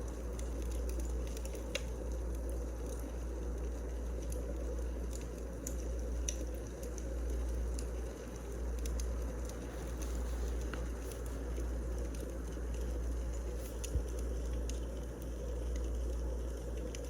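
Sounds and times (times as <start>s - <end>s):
firewood crackling and popping: 0.0s - 17.0s
steady low rumble: 0.0s - 17.0s.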